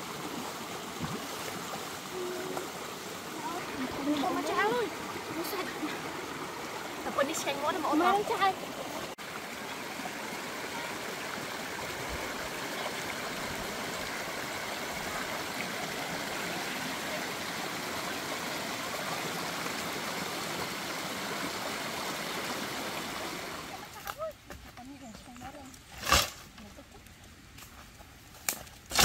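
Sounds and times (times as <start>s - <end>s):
stream rushing over stones: 0.0s - 24.0s.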